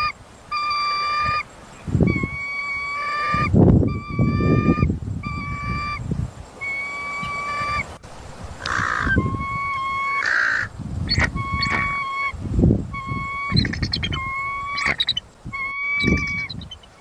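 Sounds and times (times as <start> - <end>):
eagle calling: 0.0 - 8.0, 8.6 - 17.0.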